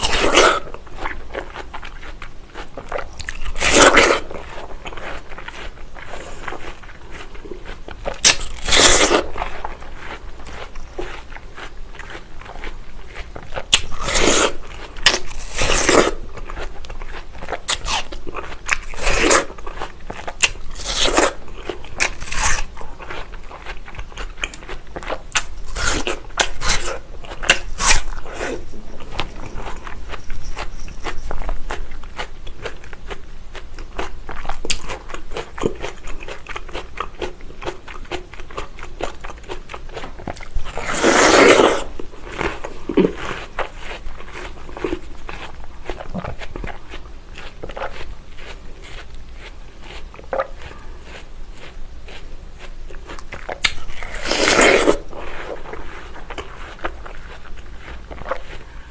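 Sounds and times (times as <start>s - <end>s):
watermelon crunching: 0.0s - 58.9s.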